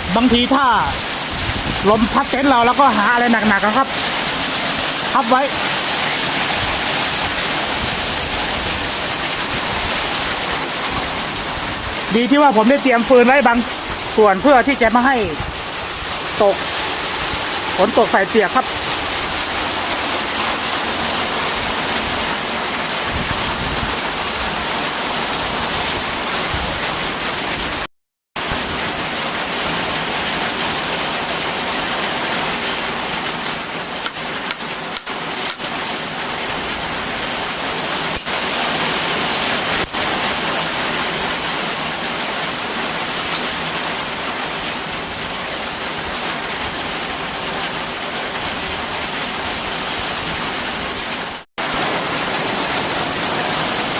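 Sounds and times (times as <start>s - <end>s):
heavy rain on metal roof: 0.0s - 53.9s.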